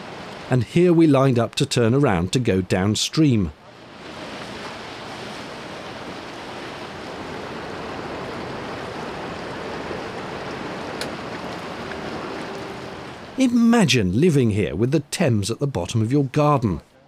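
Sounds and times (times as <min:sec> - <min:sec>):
rushing water: 0:00.0 - 0:16.8.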